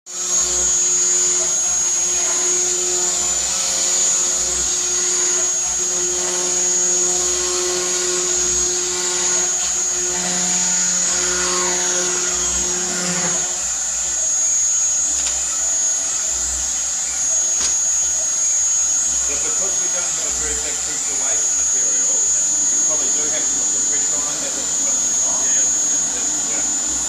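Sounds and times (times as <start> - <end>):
router spindle whining: 0.1 - 27.0.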